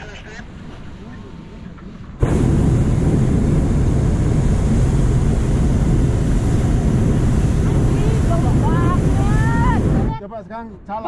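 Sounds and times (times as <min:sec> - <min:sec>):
propane burner roaring: 0:00.3 - 0:10.2.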